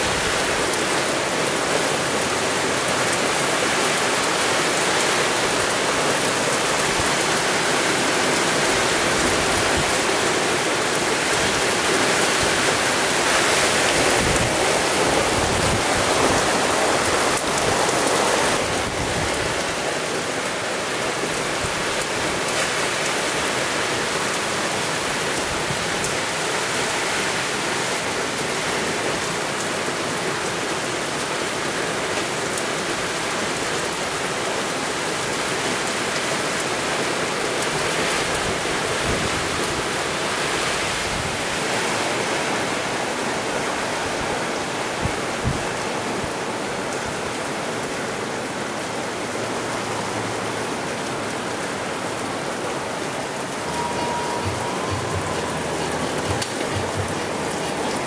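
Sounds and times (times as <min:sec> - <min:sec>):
heavy rain on roof: 0:00.0 - 0:58.0.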